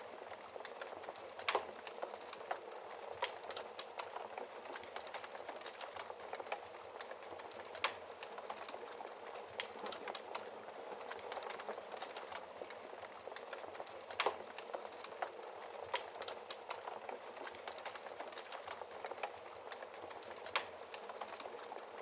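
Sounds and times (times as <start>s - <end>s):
fire crackling in fireplace: 0.0s - 22.0s
fire popping: 0.0s - 22.0s.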